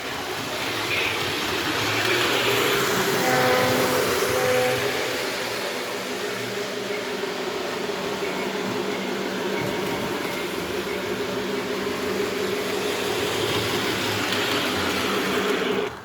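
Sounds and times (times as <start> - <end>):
model train motor hum: 0.0 - 16.0.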